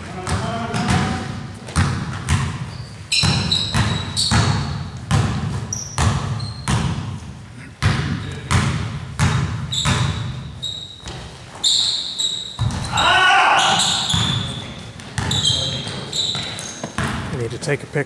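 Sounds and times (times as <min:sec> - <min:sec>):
sneaker squeaks: 0:00.0 - 0:07.1, 0:09.2 - 0:17.3
basketball bouncing on gym floor: 0:00.0 - 0:11.7, 0:12.4 - 0:17.4.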